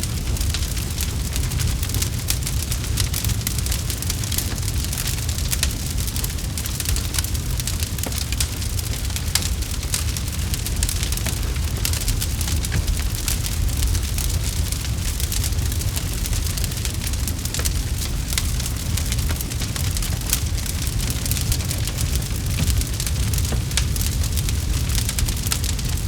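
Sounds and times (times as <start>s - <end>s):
campfire crackles and pops: 0.0s - 26.0s
low fire rumble: 0.0s - 26.0s.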